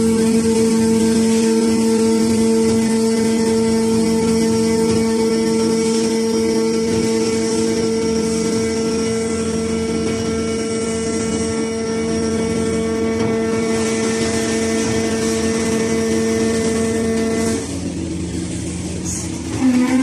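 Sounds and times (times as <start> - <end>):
hydraulic power unit whining: 0.0 - 20.0
machine noise: 0.0 - 20.0.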